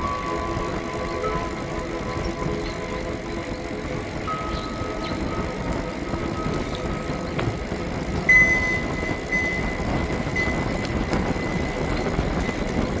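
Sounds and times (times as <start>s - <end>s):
wind and tyres rumbling: 0.0s - 13.0s.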